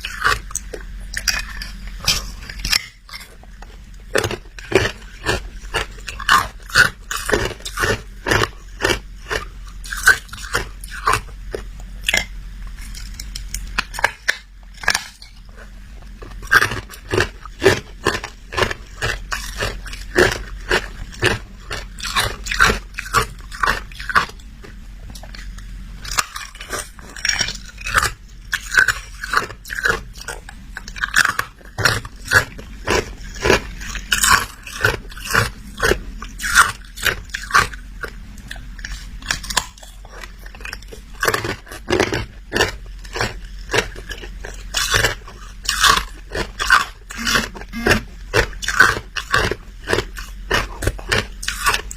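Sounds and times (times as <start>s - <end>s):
chewing hard ice crunches: 0.0s - 51.9s.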